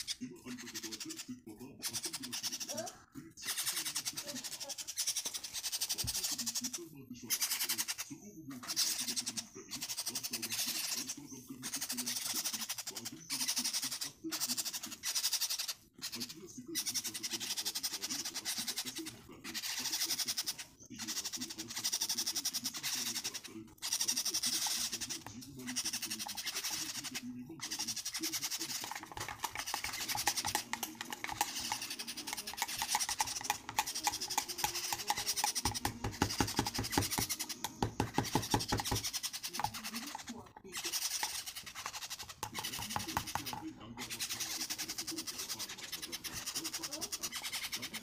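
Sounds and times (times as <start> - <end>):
metal spoon stirring in a mug: 8.6 - 48.0.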